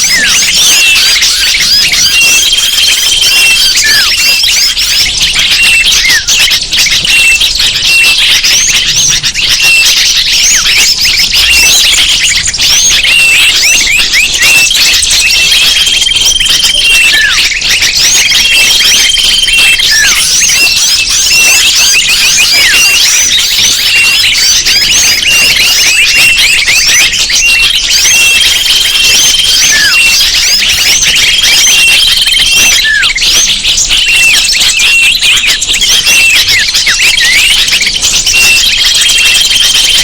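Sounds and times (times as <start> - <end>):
high bird whistles: 0.0 - 40.0
small birds chirping chorus: 0.0 - 40.0.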